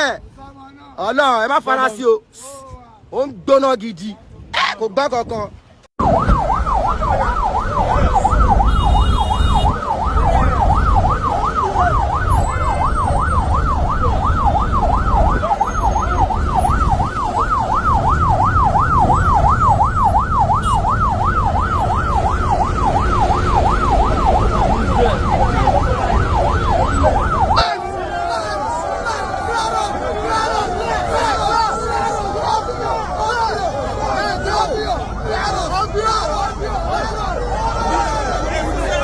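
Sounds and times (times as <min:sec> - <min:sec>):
electronic siren yelping: 0:04.6 - 0:04.8, 0:06.0 - 0:39.0.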